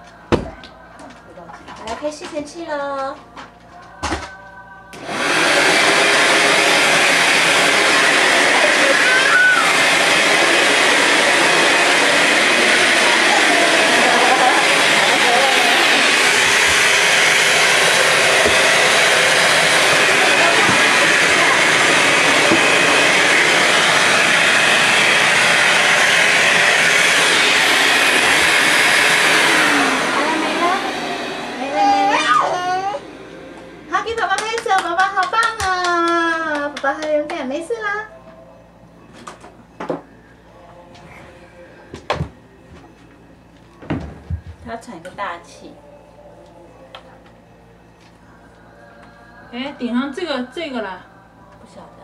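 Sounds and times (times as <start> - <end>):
vacuum cleaner running: 4.0 - 52.0.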